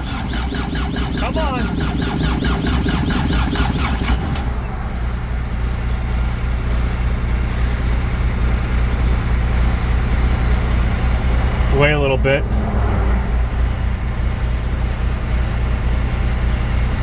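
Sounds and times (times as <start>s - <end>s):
diesel engine cranking on starter: 0.0s - 17.0s
low engine drone: 0.0s - 17.0s.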